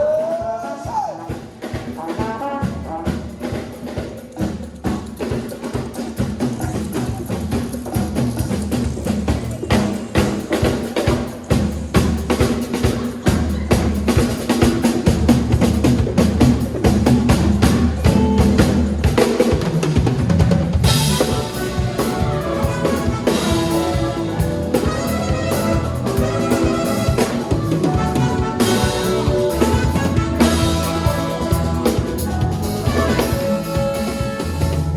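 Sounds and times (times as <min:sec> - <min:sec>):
band music: 0:00.0 - 0:34.9
cymbals: 0:00.0 - 0:34.9
drum kit groove: 0:00.0 - 0:34.9.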